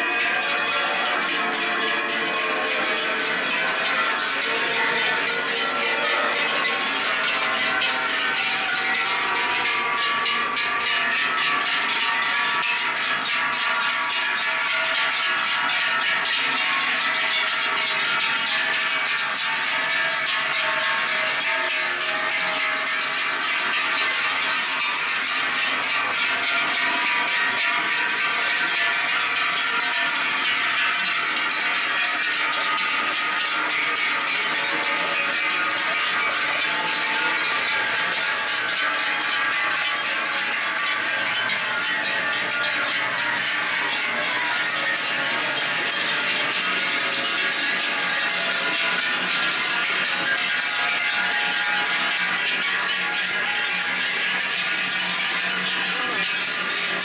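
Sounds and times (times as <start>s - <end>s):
cowbells clanging: 0.0s - 57.0s.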